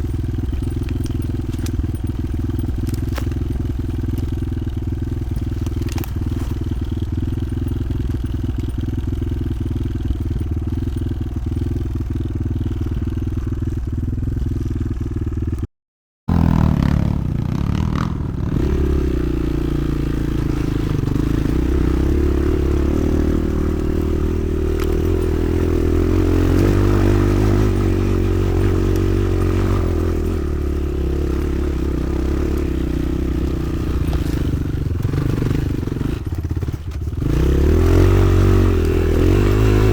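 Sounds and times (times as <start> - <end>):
clattering over rough ground: 0.0 - 14.6, 20.3 - 39.9
motorcycle engine running: 0.0 - 15.7, 16.3 - 39.9.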